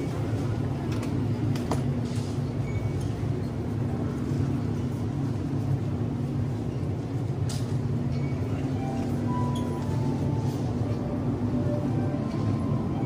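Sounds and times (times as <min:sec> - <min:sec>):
constant hum: 0:00.0 - 0:13.0
vehicle rumble: 0:00.0 - 0:13.0.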